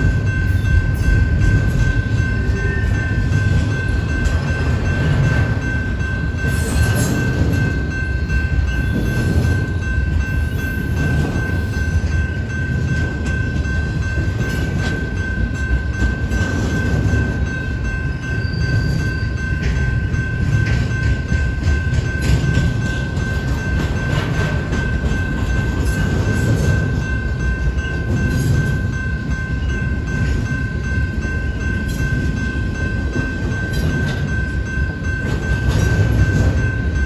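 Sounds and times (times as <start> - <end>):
freight train wheels rumbling on rail: 0.0 - 37.0
rail clicks: 0.0 - 37.0.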